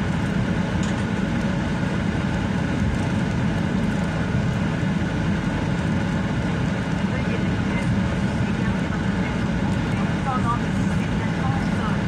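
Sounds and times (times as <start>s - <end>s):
airliner engines at low power: 0.0s - 12.0s.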